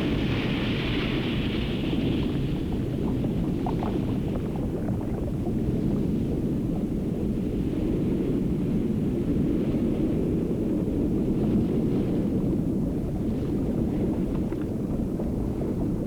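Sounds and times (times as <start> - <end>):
rough sea: 0.0 - 16.0
strong wind: 0.0 - 16.0.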